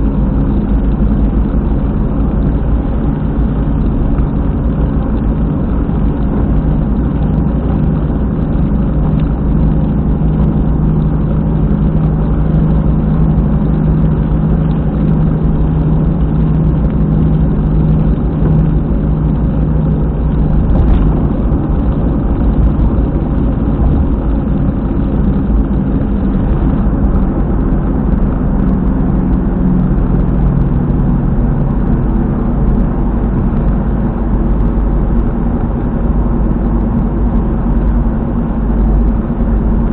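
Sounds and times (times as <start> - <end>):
car driving at speed: 0.0 - 39.9
rumbling drone from rear wheel: 0.0 - 39.9.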